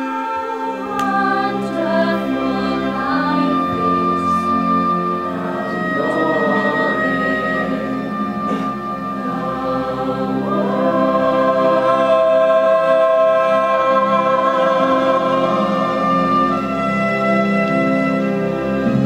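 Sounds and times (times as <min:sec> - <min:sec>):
choir singing held chords: 0:00.0 - 0:19.0.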